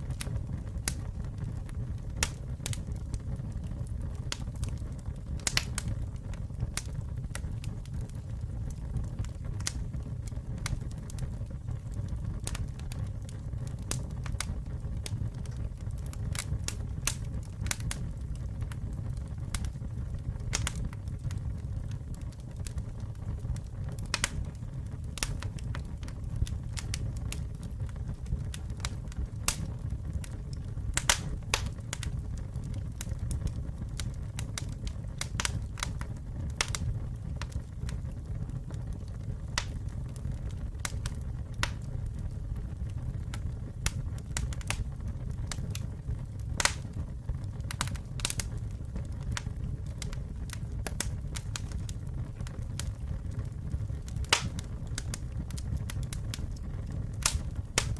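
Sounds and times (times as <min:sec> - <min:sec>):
burning wood crackling and popping: 0:00.0 - 0:57.9
fire rumbling: 0:00.0 - 0:57.9.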